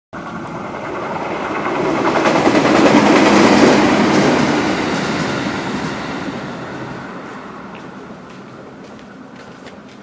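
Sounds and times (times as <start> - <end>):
train wheels on track: 0.2 - 10.0.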